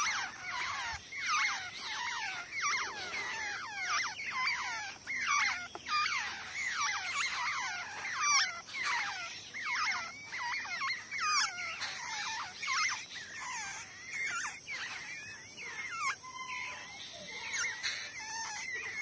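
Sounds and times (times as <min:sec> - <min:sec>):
nestlings begging chirps: 0:00.0 - 0:19.0.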